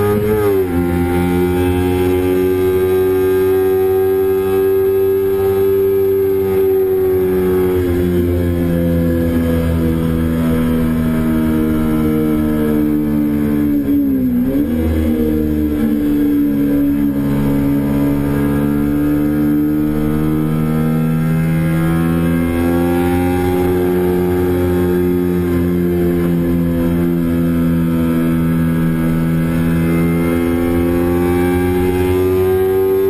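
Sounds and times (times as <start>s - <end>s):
motorcycle engine at high revs: 0.0s - 33.0s.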